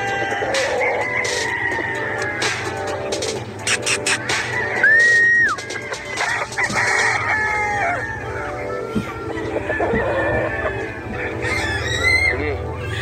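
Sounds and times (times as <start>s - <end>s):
hens clucking: 0.0s - 13.0s
roosters crowing: 0.0s - 13.0s.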